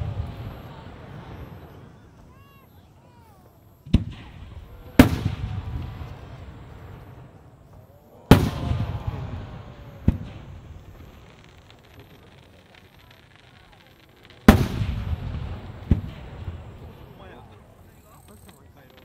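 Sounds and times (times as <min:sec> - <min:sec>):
firework shells bursting: 0:03.4 - 0:19.0.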